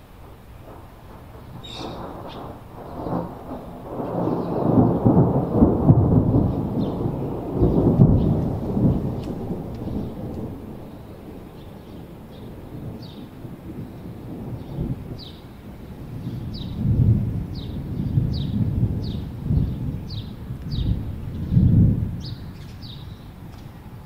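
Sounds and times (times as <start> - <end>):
rolling thunder: 0.0 - 24.0.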